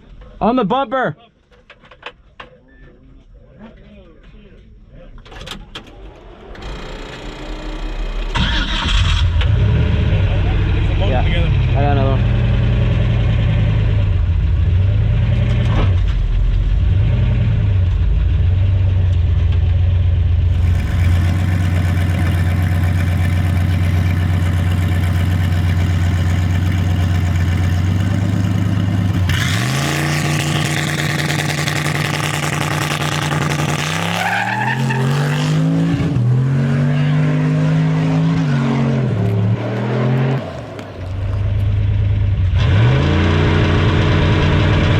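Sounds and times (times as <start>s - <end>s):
car engine idling and revving: 6.1s - 44.9s.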